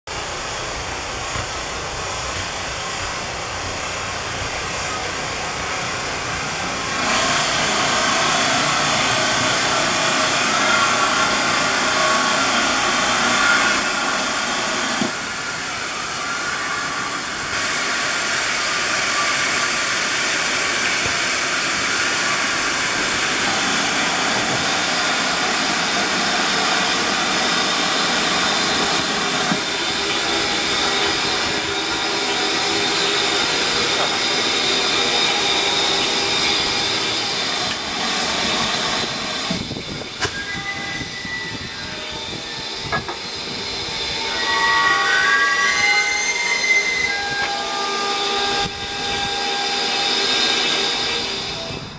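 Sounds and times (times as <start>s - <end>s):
steam hissing: 0.1s - 51.9s.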